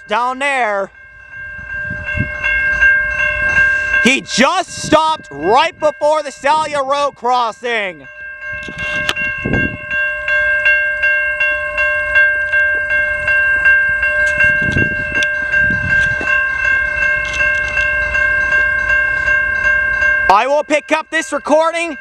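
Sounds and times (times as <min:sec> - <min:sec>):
railroad crossing bell ringing: 0:00.0 - 0:22.0.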